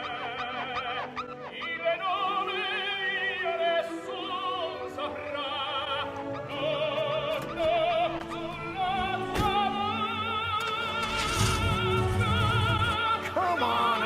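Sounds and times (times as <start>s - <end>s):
operatic singing with vibrato: 0.0s - 14.0s
orchestral accompaniment: 0.0s - 14.0s.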